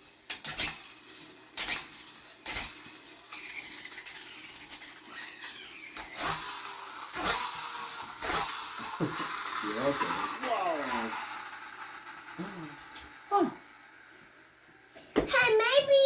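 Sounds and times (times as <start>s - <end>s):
toy truck engine sound effect: 0.0s - 14.1s.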